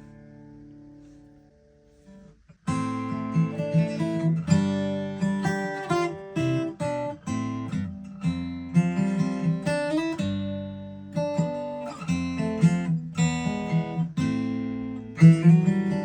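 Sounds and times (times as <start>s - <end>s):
acoustic guitar chords and notes: 0.0s - 16.0s.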